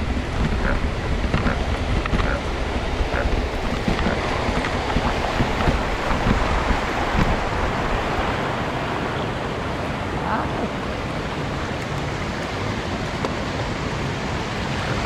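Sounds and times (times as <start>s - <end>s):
water splashing and rushing: 0.0s - 15.0s
wind rumbling on microphone: 0.0s - 15.0s.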